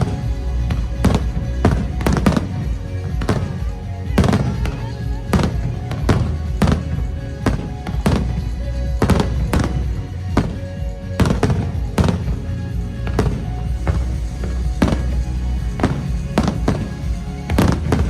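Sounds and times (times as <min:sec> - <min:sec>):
fireworks bursting: 0:00.0 - 0:18.0
loud music: 0:00.0 - 0:18.0.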